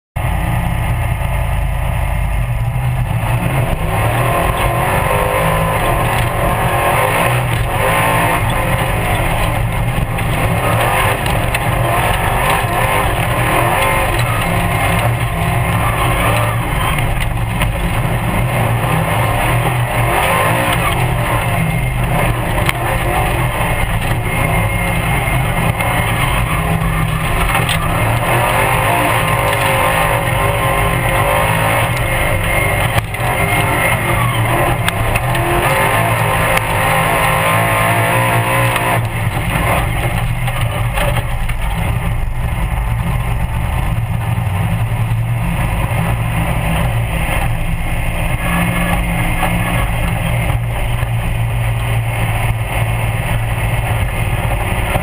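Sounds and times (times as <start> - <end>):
buggy engine running hard: 0.2 - 55.0
car rattling over rough dirt: 2.4 - 55.0.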